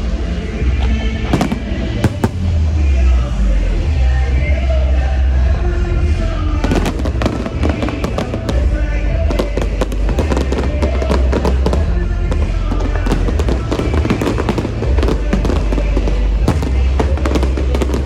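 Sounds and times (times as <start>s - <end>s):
loud music with heavy bass: 0.0s - 18.0s
fireworks bursting and crackling: 0.7s - 3.2s, 6.0s - 18.0s.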